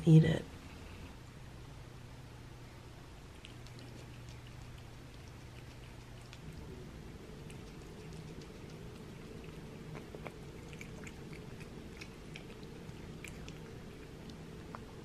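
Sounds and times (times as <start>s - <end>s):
cat chewing and lapping food: 2.7s - 15.0s.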